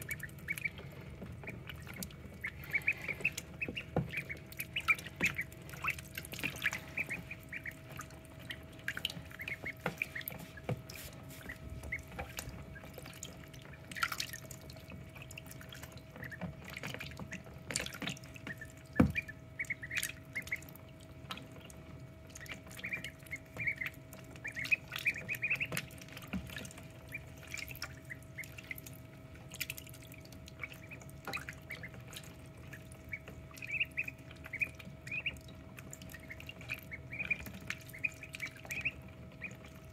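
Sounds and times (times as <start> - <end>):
ducklings peeping: 0.0 - 39.9
faint steady hum: 0.0 - 39.9
water splashes and drips: 0.0 - 39.9.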